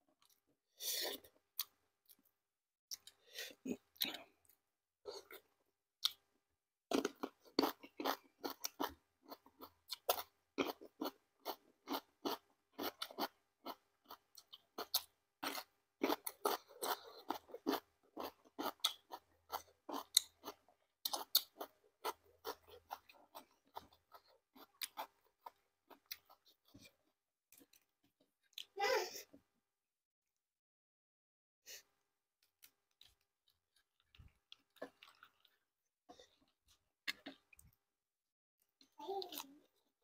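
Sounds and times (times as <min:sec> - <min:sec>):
chewing and crunching food: 0:00.1 - 0:28.8, 0:32.4 - 0:37.9.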